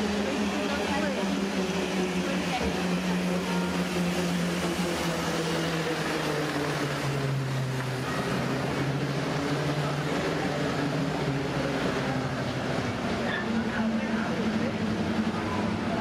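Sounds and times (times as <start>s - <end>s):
traffic noise: 0.0s - 16.0s
vehicle engine hum: 0.0s - 16.0s.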